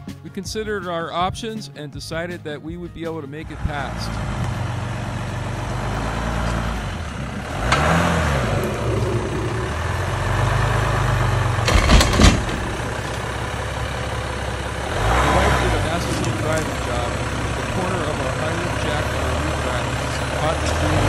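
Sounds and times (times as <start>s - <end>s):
diesel engine running: 2.1s - 21.0s.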